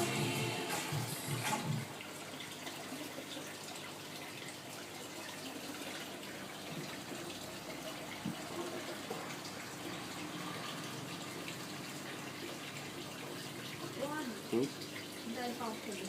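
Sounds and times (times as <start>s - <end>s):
aquarium water rushing: 0.0s - 16.0s.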